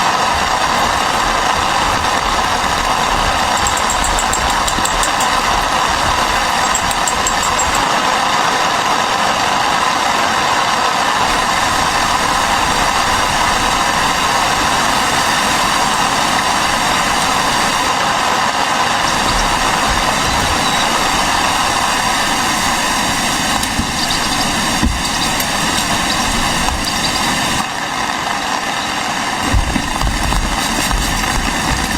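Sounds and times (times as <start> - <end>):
heavy rain and wind roaring: 0.0 - 31.9.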